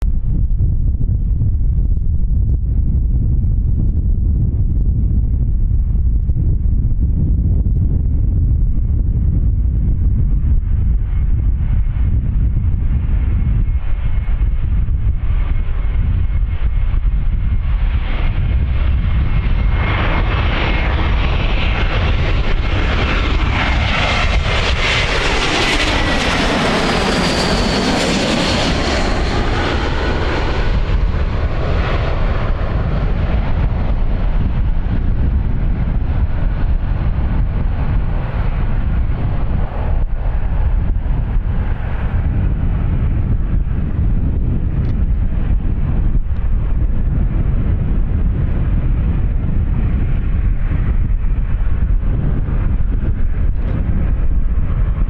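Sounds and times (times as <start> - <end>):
jet airliner passing overhead: 0.0 - 55.0
jet engine whine: 0.0 - 55.0.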